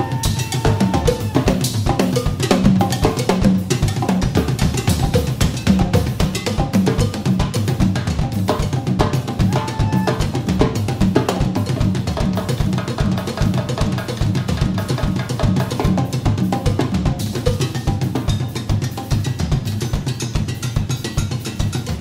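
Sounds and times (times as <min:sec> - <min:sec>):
drum kit and hand percussion: 0:00.0 - 0:22.0.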